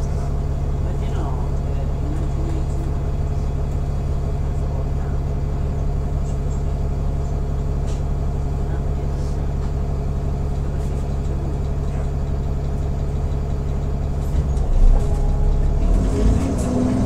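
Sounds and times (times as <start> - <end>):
bus diesel engine idling: 0.0 - 17.0.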